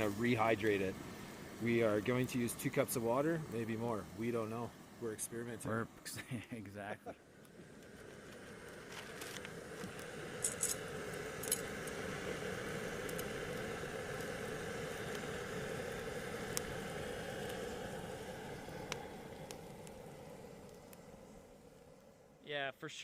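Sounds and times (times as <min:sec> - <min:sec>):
campfire hiss: 0:00.0 - 0:23.0.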